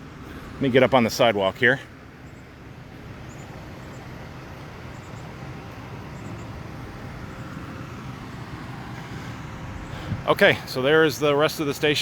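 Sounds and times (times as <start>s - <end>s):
rumble of passing cars: 0.0s - 12.0s.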